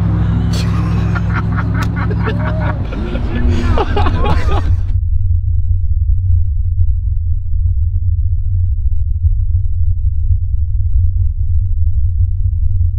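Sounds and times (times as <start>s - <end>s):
deep bass drone: 0.0s - 12.9s.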